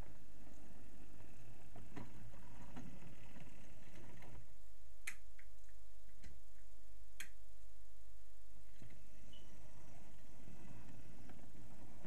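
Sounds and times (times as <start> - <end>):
constant low hum: 0.0 - 12.0
faint steady whine: 0.0 - 12.0.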